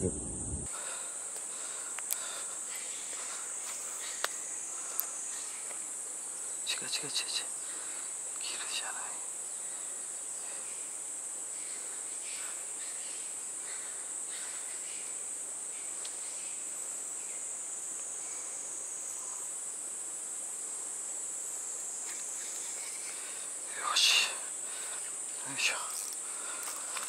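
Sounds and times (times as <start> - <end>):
shrill insect chorus: 0.0 - 27.0.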